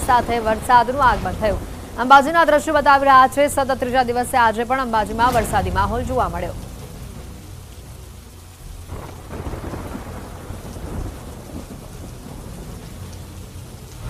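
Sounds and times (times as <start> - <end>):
heavy rain falling: 0.0 - 14.0
low rumble: 0.0 - 14.0.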